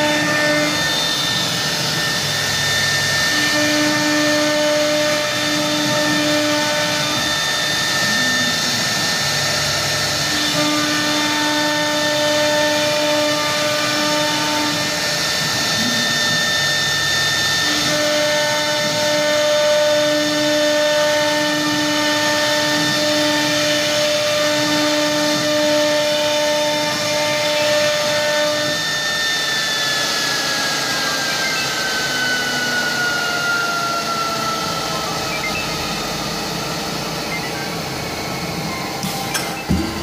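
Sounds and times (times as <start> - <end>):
lower hum: 0.0 - 40.0
router spindle high whine: 0.0 - 40.0.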